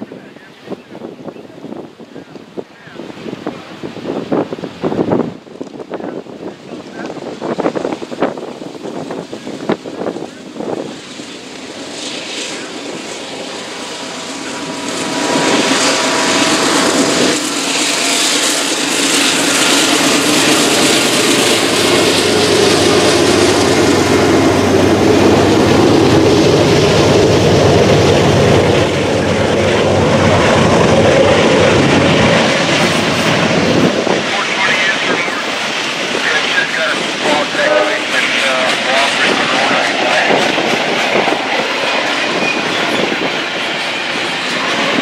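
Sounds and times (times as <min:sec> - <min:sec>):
diesel locomotive engines running: 0:05.4 - 0:45.0.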